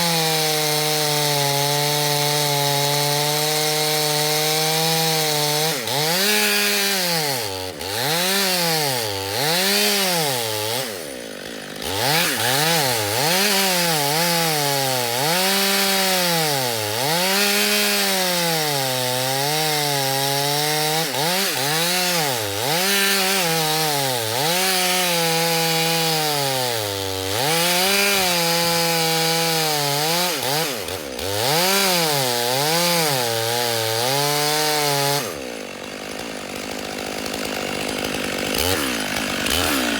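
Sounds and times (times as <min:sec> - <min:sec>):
chainsaw sawing through log: 0:00.0 - 0:39.9.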